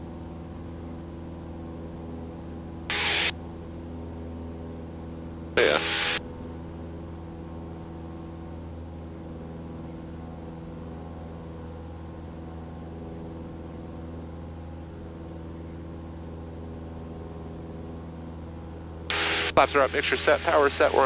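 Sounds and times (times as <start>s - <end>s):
airplane engine droning: 0.0s - 21.0s.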